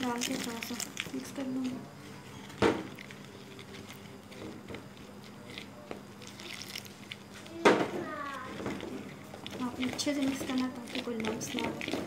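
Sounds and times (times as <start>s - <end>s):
spoon mixing flour in bowl: 0.0s - 12.0s.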